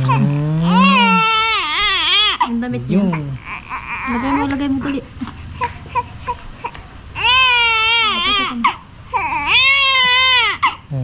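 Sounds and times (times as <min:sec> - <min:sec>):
newborn baby crying: 0:00.0 - 0:11.0.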